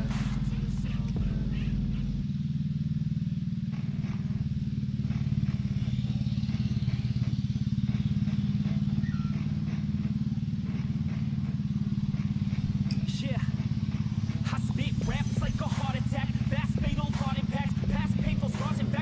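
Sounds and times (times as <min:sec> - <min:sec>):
engine running with pulsing hum: 0:00.0 - 0:19.0.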